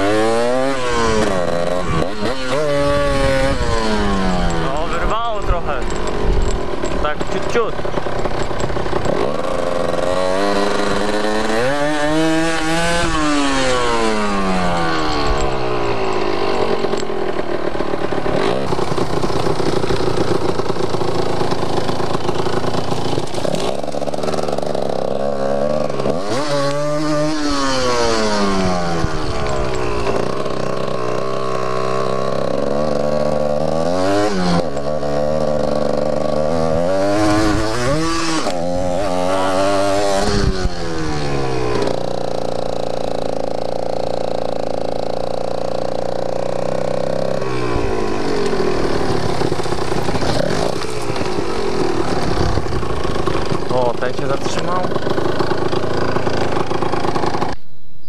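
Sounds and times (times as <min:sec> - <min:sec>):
dirt bike engine revving: 0:00.0 - 0:57.6.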